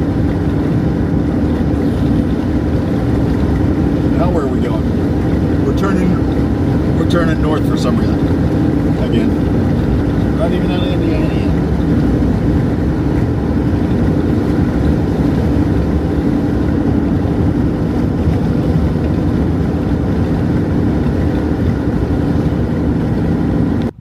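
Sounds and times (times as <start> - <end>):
car interior engine and tyre drone: 0.0 - 24.0.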